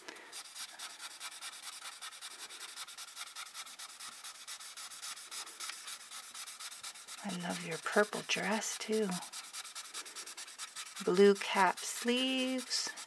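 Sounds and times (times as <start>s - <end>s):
marker scribbling on paper: 0.3s - 13.0s.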